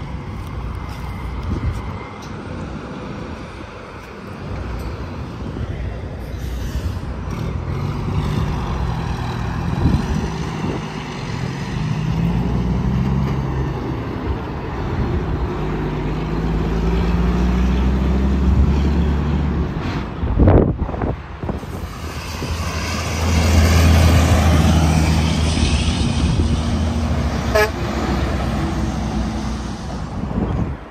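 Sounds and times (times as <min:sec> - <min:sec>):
trucks passing on highway: 0:00.0 - 0:30.9.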